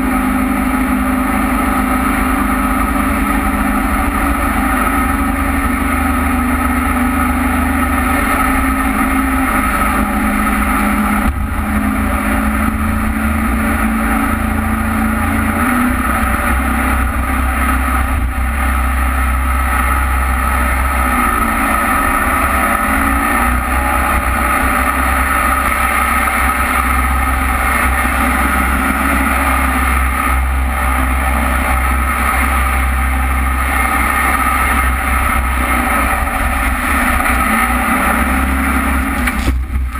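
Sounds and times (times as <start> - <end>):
boat engine running: 0.0 - 39.9
water rushing past hull: 0.0 - 39.9.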